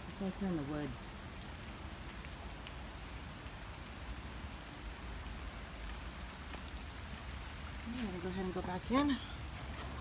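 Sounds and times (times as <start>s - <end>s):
faint raindrop ticks: 0.0s - 10.0s
light rain hissing: 0.0s - 10.0s.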